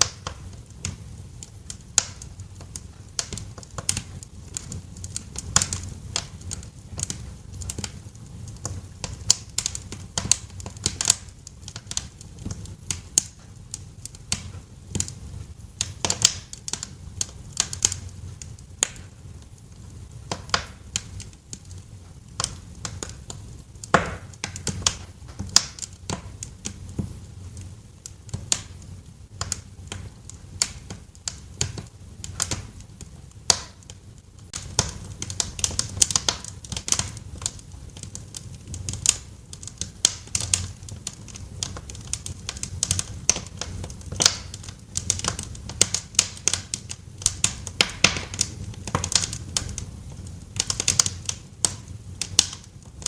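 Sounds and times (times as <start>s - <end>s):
fire pops and snaps: 0.0s - 53.0s
wood fire crackling: 0.0s - 53.0s.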